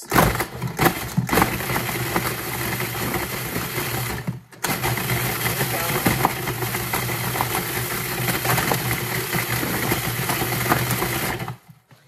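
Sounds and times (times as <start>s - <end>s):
food processor motor running: 0.0s - 11.9s.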